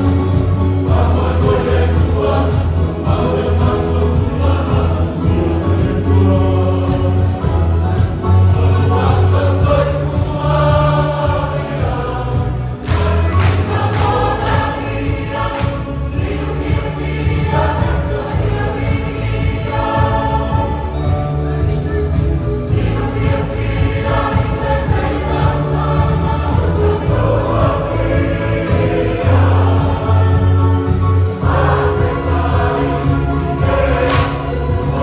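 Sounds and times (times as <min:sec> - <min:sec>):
choir singing in harmony: 0:00.0 - 0:35.0
steady beat: 0:00.0 - 0:35.0
sustained bass accompaniment: 0:00.0 - 0:35.0.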